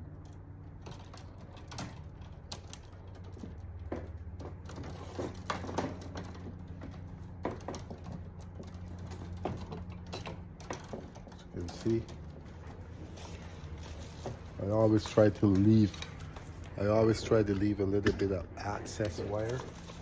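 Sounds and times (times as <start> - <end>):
steady low hum: 0.0 - 20.0
hand tools clicking and tapping: 0.2 - 18.4.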